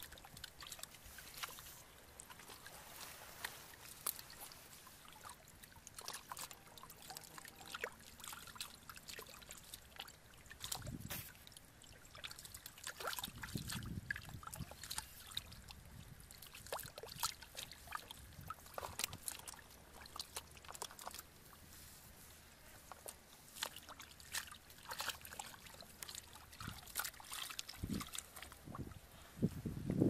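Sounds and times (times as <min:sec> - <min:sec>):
water dripping: 0:00.0 - 0:21.6, 0:22.8 - 0:29.0
hands splashing in muddy water: 0:00.0 - 0:21.7, 0:22.8 - 0:29.0.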